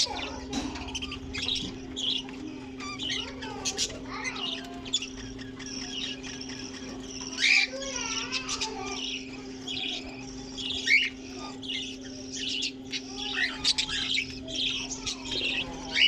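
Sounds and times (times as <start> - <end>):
budgerigars chattering: 0.0 - 16.0
steady low hum: 0.0 - 16.0.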